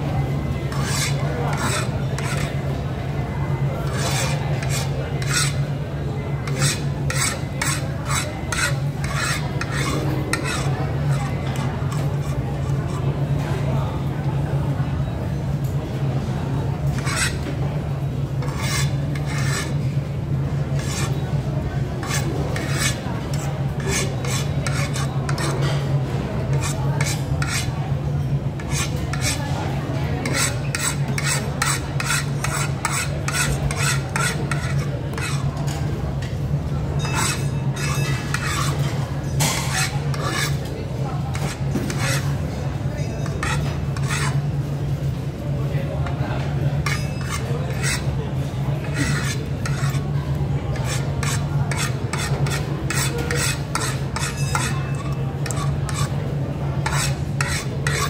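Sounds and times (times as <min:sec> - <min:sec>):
cutlery scraping and clinking dish: 0:00.7 - 0:02.7, 0:03.8 - 0:05.8, 0:06.4 - 0:13.6, 0:16.9 - 0:17.6, 0:18.4 - 0:19.8, 0:20.8 - 0:44.4, 0:46.0 - 0:48.2, 0:48.8 - 0:56.2, 0:56.8 - 0:58.0.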